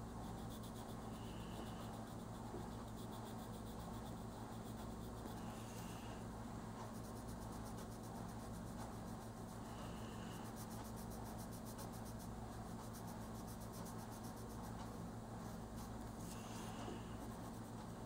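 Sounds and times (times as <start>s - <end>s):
colored pencil scratching on paper: 0.0s - 18.0s
faint steady hum: 0.0s - 18.0s.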